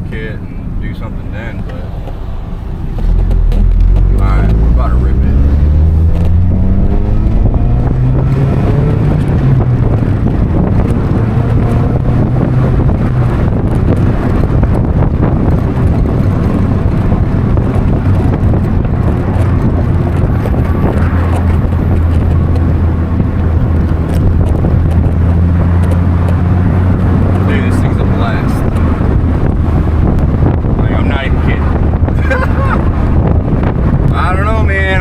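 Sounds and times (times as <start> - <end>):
car engine revving: 0.3 - 35.0
wind rushing past: 0.7 - 34.2.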